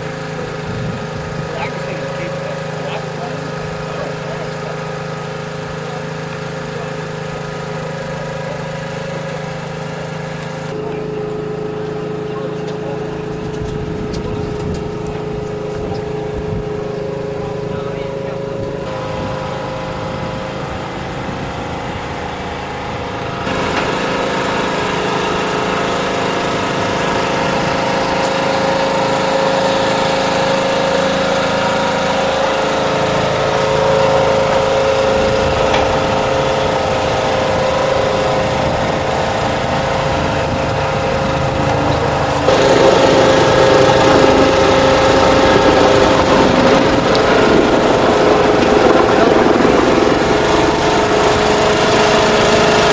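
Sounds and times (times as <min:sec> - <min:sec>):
small engine humming: 0:00.0 - 0:52.9.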